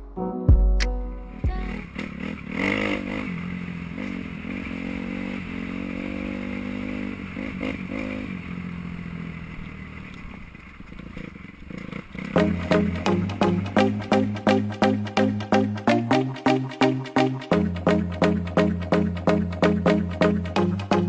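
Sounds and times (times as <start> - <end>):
dirt bike engine revving: 1.6 - 21.0.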